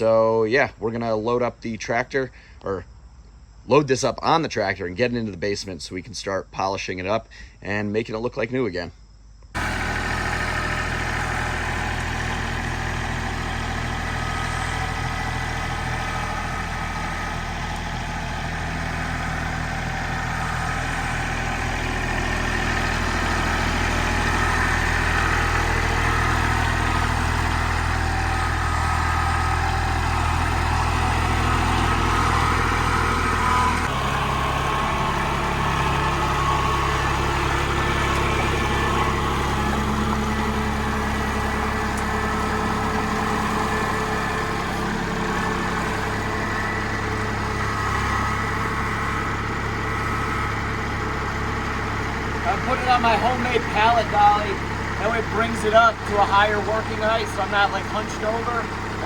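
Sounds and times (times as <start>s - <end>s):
tractor diesel engine running: 9.5s - 59.0s.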